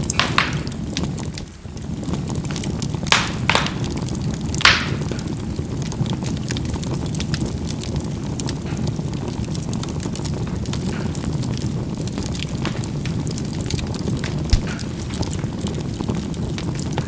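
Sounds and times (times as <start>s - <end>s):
charcoal fire rumble: 0.0s - 17.0s
loud charcoal pops: 0.0s - 17.0s
small crackles: 0.0s - 17.0s.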